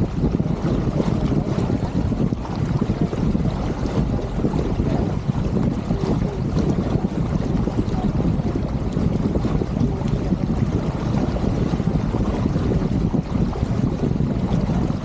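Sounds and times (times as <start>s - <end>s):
water washing along hull: 0.0s - 15.0s
wind rumbling on microphone: 0.0s - 15.0s.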